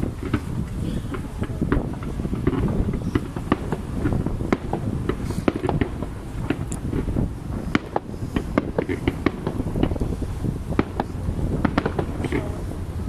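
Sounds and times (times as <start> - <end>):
fireworks bangs and crackles: 0.0 - 13.0
high firework streak: 0.0 - 13.0
low rumble of bursting shells: 0.0 - 13.0.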